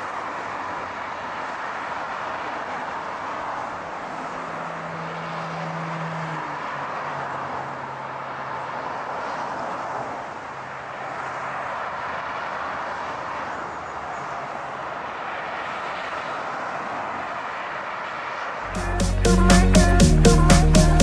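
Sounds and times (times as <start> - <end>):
cars driving past: 0.0 - 20.6.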